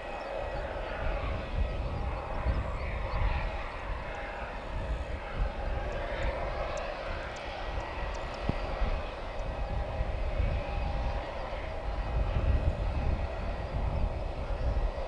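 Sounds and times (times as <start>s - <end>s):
faint steady whine: 0.0s - 15.0s
jet engines rumbling: 0.0s - 15.0s.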